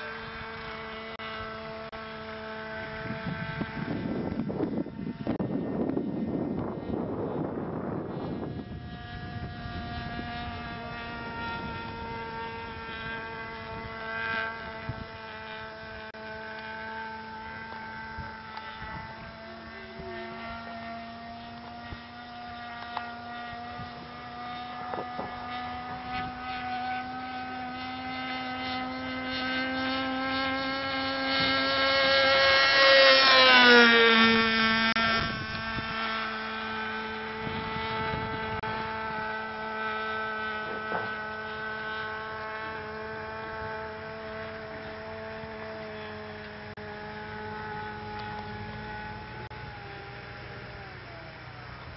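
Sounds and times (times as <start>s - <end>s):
model airplane engine: 0.0s - 51.9s.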